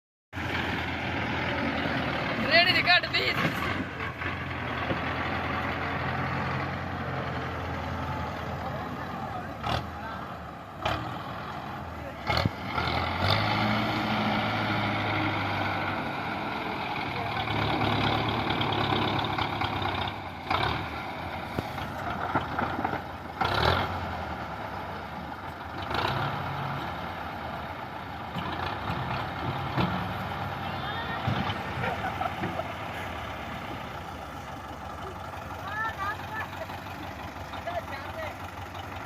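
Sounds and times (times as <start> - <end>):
tractor diesel engine running: 0.3 - 39.0.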